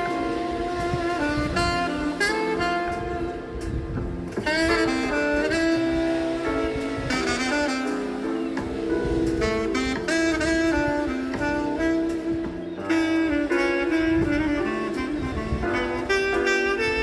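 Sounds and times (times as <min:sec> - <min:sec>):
instrumental jazz music: 0:00.0 - 0:17.0.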